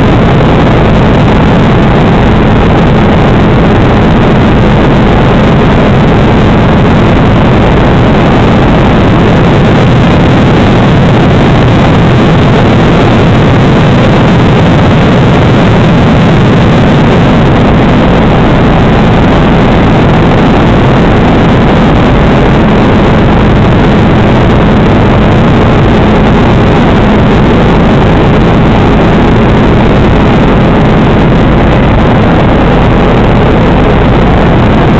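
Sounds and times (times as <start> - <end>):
helicopter drone from inside cabin: 0.0 - 34.9.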